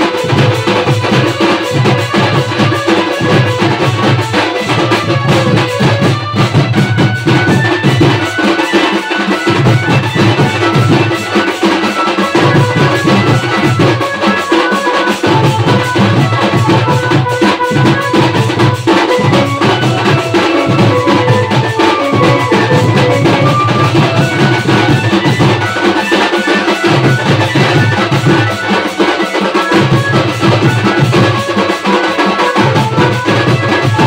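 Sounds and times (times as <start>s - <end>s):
drums beating fast rhythm: 0.0s - 34.0s
held-note melody: 1.3s - 34.0s.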